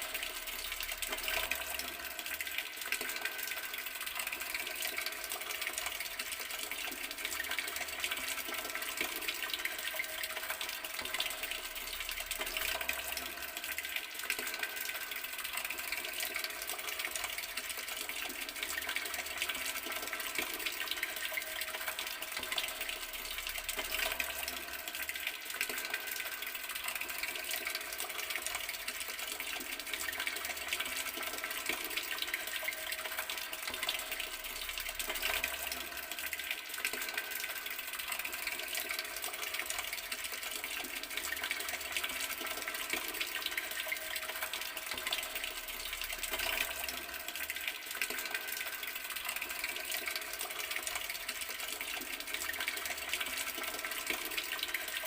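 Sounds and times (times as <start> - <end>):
water tap running: 0.0 - 55.0.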